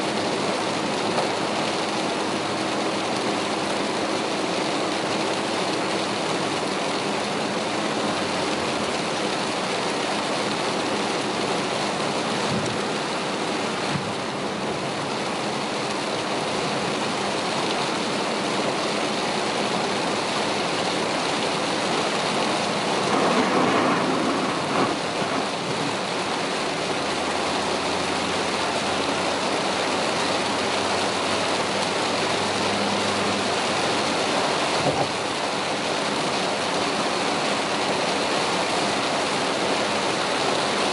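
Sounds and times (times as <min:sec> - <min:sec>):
heavy rain on car roof: 0:00.0 - 0:40.9
tyres through standing water: 0:00.0 - 0:40.9.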